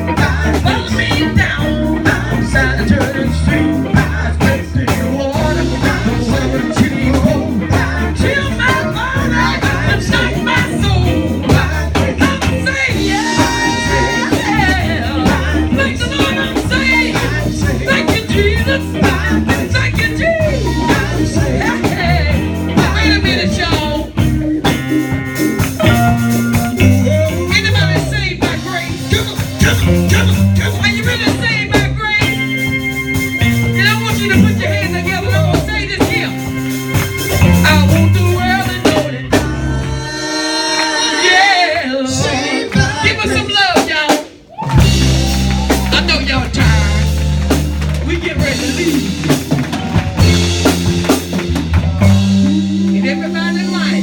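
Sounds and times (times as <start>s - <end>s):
gospel singing: 0.0s - 24.8s, 33.8s - 44.2s, 44.8s - 54.0s
band with bass and guitar: 0.0s - 54.0s.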